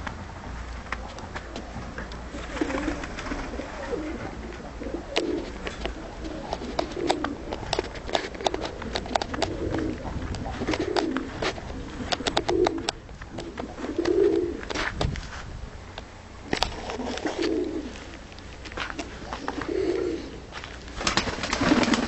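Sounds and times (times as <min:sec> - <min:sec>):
pigeons cooing: 0:01.0 - 0:14.8, 0:16.7 - 0:18.2, 0:18.9 - 0:22.0.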